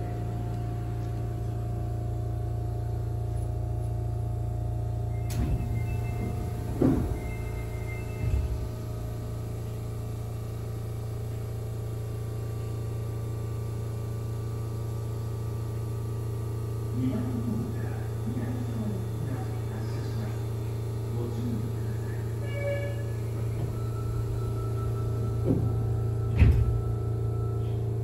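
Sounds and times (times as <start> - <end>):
subway car low hum: 0.0 - 28.0.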